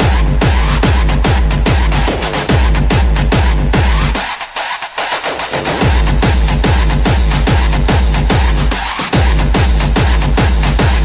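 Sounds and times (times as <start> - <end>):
deep kick drum: 0.0 - 4.3, 5.6 - 11.0
techno music: 0.0 - 11.0.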